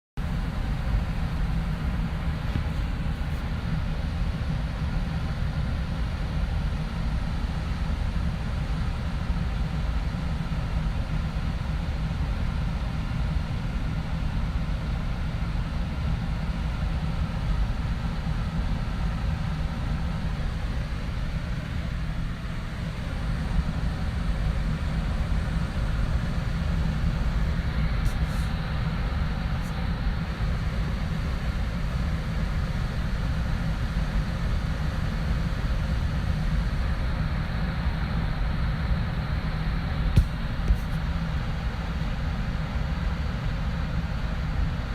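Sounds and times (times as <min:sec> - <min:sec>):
air conditioner hum: 0:00.2 - 0:44.9.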